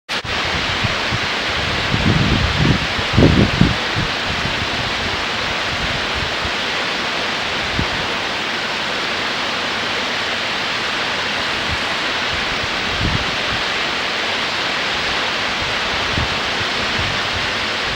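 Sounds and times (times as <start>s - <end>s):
waterfall rushing: 0.1s - 17.9s
wind buffeting microphone: 0.2s - 9.3s, 10.4s - 17.9s.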